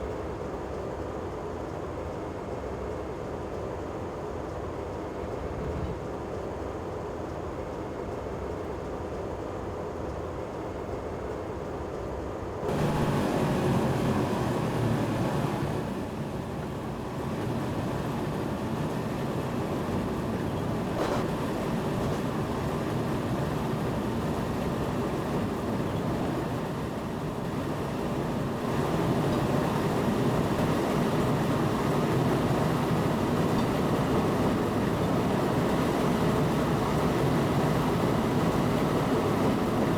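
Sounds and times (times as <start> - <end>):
train rumble and rattle: 0.0 - 39.9.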